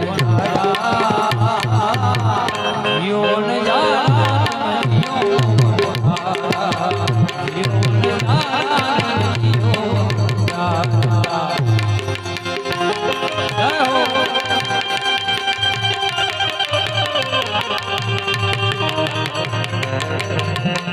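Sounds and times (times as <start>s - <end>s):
ornamented instrumental melody: 2.2s - 20.9s.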